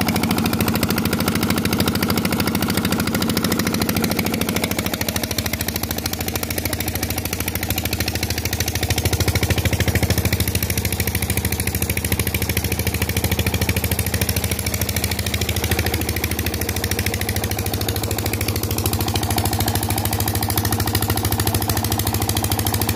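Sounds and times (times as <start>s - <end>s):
diesel engine knocking: 0.0s - 22.9s.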